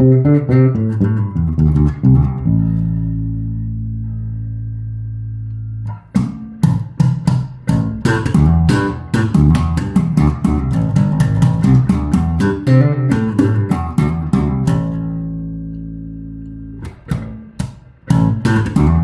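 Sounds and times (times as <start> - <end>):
electric bass guitar notes: 0.0 - 19.0.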